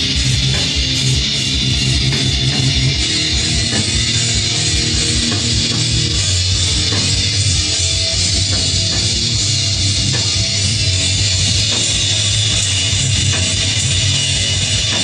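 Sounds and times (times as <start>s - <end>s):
heavy metal music over speakers: 0.0s - 15.0s.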